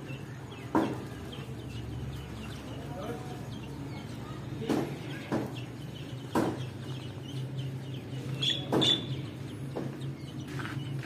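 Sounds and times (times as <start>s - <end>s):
chickens clucking: 0.0s - 11.0s
small birds chirping: 0.0s - 11.0s.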